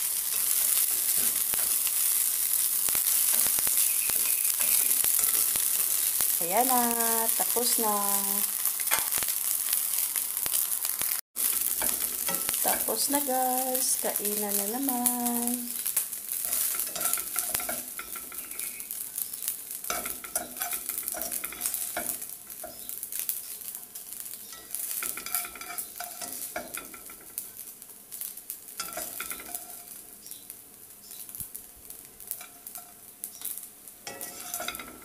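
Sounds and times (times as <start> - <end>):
rice sizzling and crackling: 0.0 - 35.0.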